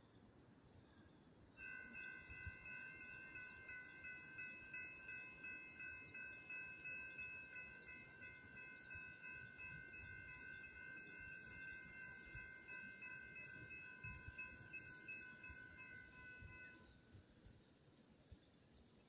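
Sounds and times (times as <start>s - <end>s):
crossing warning bell ringing: 1.6s - 17.1s.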